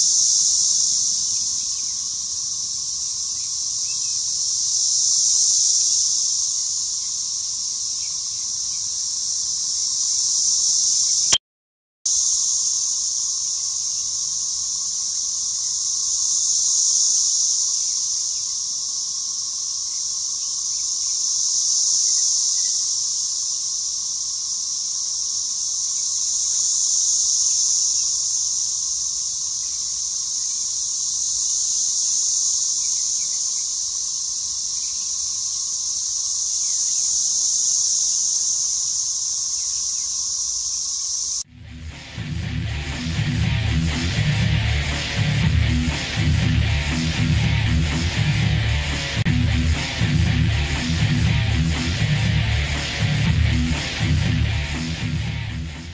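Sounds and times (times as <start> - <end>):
cicadas droning: 0.0 - 11.4, 12.1 - 55.9.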